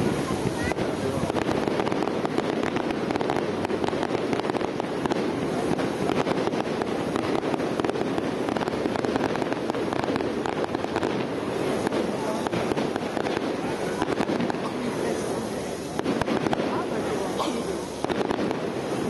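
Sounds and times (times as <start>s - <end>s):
fireworks rapid pops: 0.0s - 19.0s.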